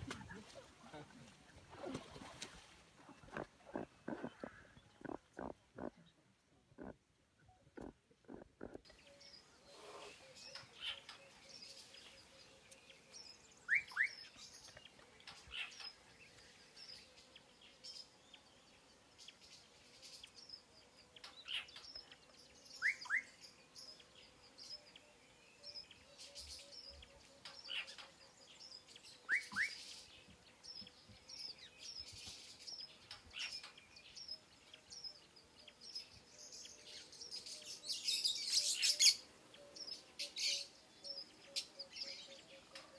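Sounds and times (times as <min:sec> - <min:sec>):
birds twittering: 0:01.8 - 0:06.1, 0:06.8 - 0:07.0, 0:07.7 - 0:42.9.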